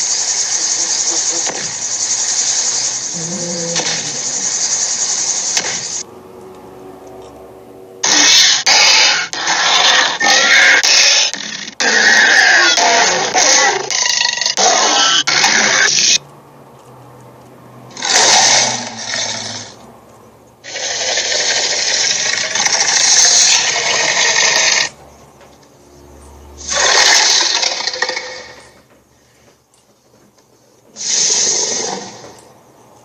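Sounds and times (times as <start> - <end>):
bursts of harsh noise: 0.0 - 7.0, 7.9 - 16.2, 17.8 - 20.0, 20.6 - 29.5, 30.9 - 32.6.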